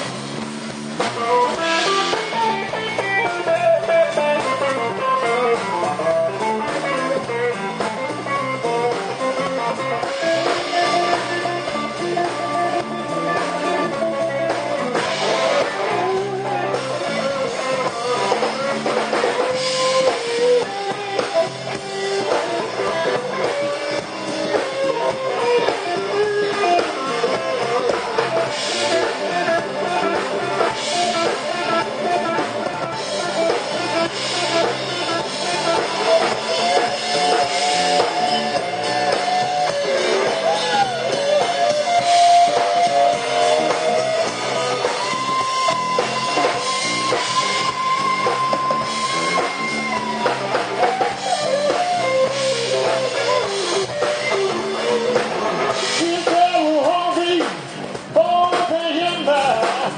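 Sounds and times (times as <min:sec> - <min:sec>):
bending lead guitar line: 0:00.0 - 0:59.9
live rock band playing: 0:00.0 - 0:59.9.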